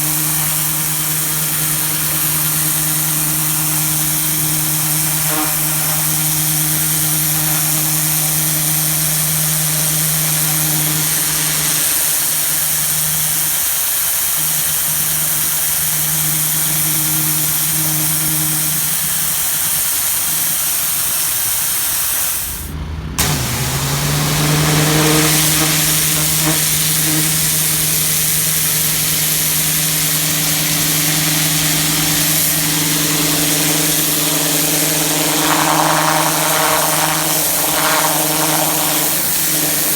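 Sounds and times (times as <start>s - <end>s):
pressure washer engine running: 0.0s - 39.9s
water jet hissing on concrete: 0.0s - 39.9s.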